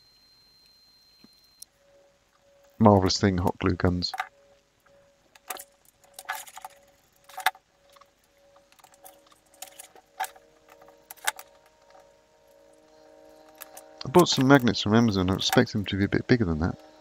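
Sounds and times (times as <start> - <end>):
faint steady tones: 0.0 - 17.0.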